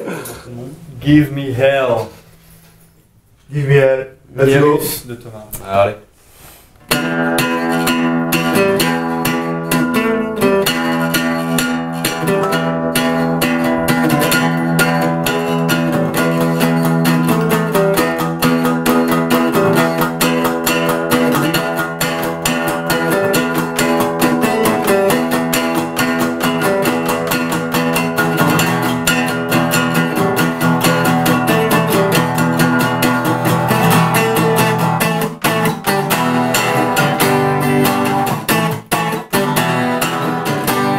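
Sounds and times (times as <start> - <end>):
strummed guitars playing: 6.8 - 40.9.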